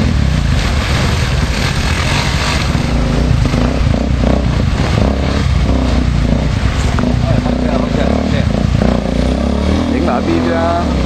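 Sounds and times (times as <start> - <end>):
dirt bike engines at low speed: 0.0 - 11.0.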